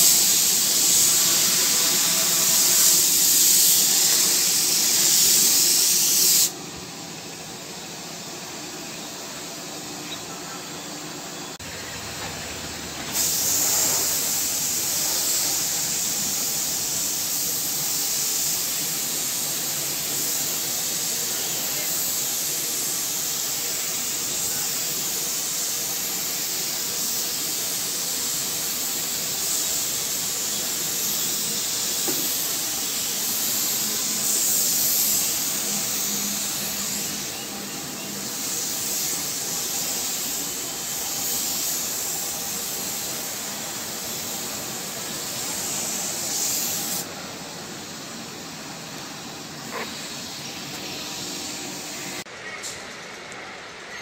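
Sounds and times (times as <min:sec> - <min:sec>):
spray gun air hiss: 0:00.0 - 0:10.1, 0:11.0 - 0:52.3.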